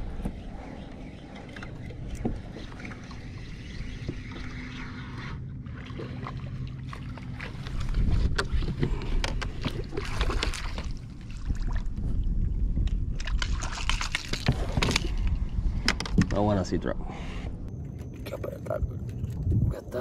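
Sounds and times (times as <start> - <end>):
water sloshing against hull: 0.0 - 16.6.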